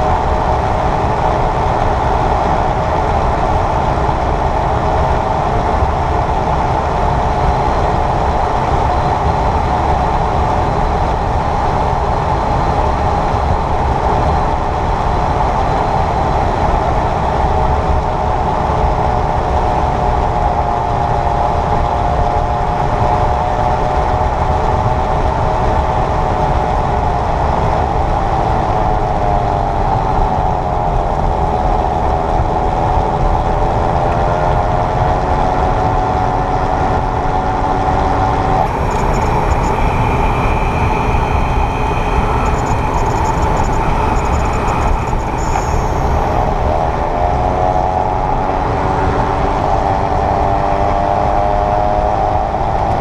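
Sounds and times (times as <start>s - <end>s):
electric drivetrain whine: 0.0s - 53.0s
road noise: 0.0s - 53.0s.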